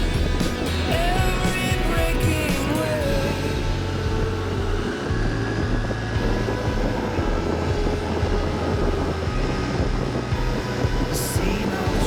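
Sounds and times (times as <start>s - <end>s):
song playing: 0.0s - 12.0s
vehicle engine and road noise: 0.0s - 12.0s.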